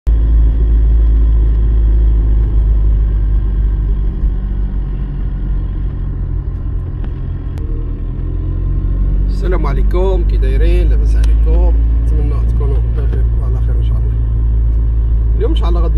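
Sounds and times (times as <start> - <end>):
engine and road noise rumble: 0.0 - 15.9.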